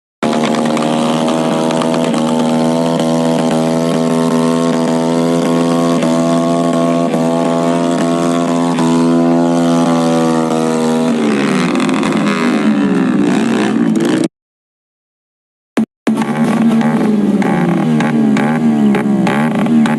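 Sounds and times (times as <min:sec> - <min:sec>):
vehicle engine revving: 0:00.2 - 0:14.3, 0:16.1 - 0:19.9.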